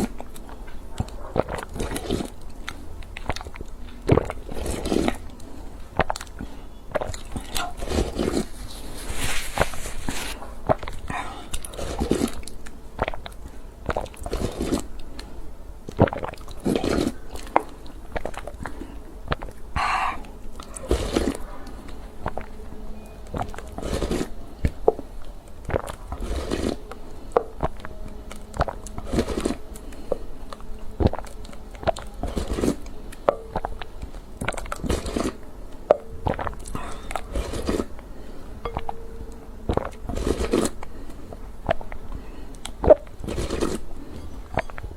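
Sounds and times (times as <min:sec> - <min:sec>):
wet mouth clicks: 0:00.0 - 0:08.6, 0:10.6 - 0:15.3, 0:15.9 - 0:22.6, 0:25.6 - 0:38.0, 0:38.6 - 0:43.8, 0:44.4 - 0:44.9
person chewing crunchy food: 0:00.0 - 0:44.9.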